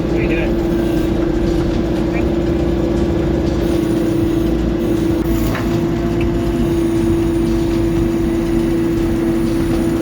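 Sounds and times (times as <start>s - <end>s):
backhoe engine droning: 0.0s - 10.0s.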